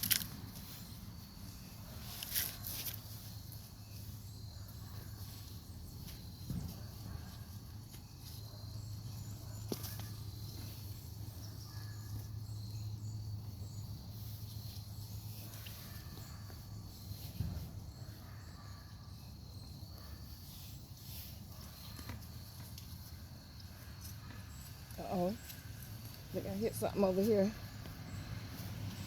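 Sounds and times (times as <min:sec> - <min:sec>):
scraping and rustling in soil: 0:00.0 - 0:29.0.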